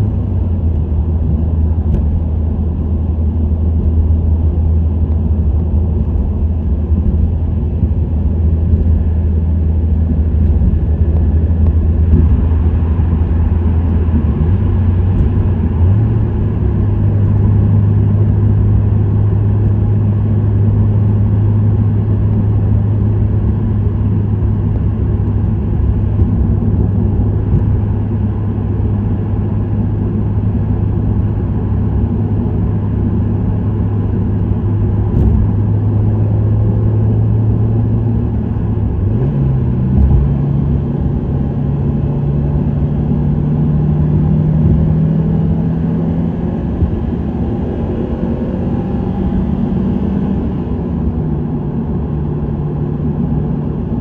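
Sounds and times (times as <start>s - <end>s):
car engine cruising: 0.0s - 54.0s
tyre and road noise: 0.0s - 54.0s.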